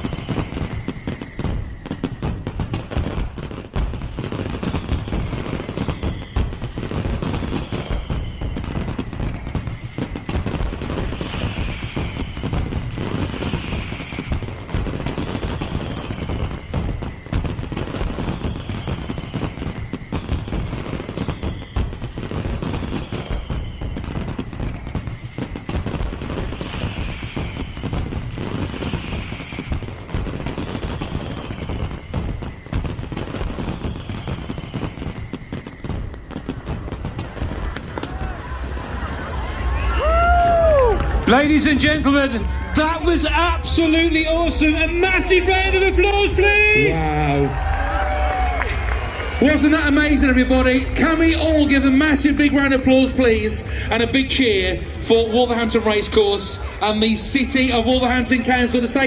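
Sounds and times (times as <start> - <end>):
rapid firework bangs and crackles: 0.0 - 59.0.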